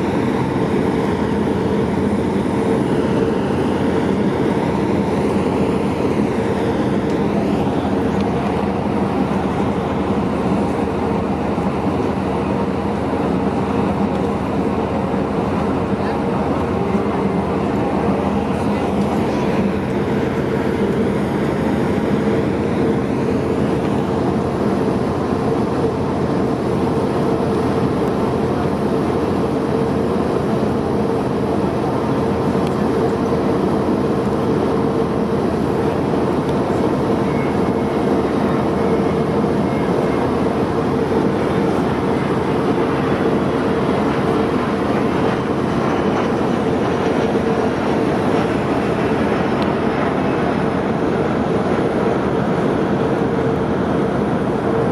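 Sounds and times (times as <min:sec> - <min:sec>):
ship engines droning: 0:00.0 - 0:54.9.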